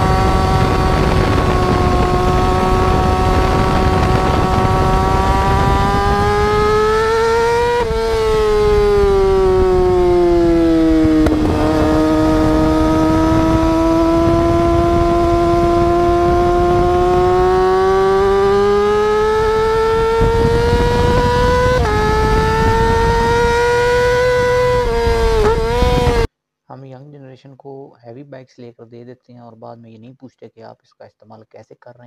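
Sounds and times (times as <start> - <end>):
motorcycle engine revving: 0.0 - 26.3.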